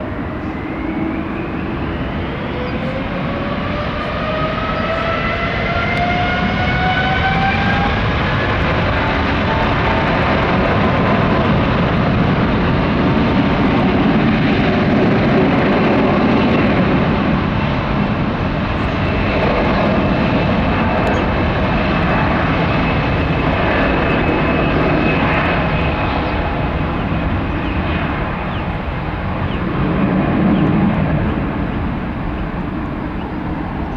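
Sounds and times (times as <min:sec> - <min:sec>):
jet engines spooling up: 0:00.0 - 0:33.9
loud jet noise: 0:00.0 - 0:33.9.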